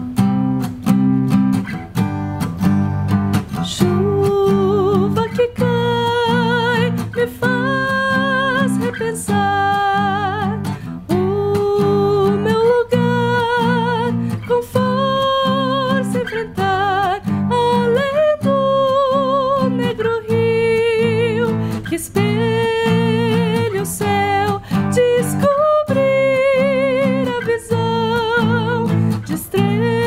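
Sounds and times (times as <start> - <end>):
strummed acoustic guitar: 0.0 - 30.0
woman singing: 3.5 - 30.0.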